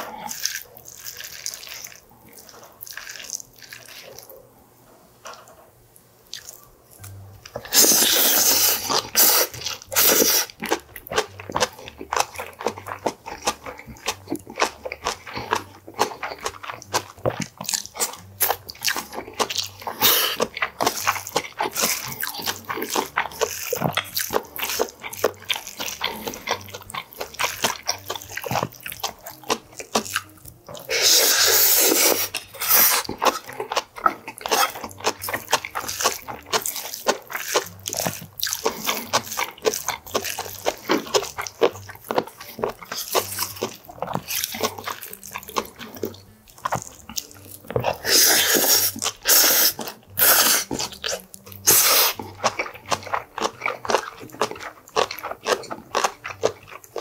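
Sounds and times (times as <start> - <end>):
chewing and wet mouth sounds: 0.0 - 57.0.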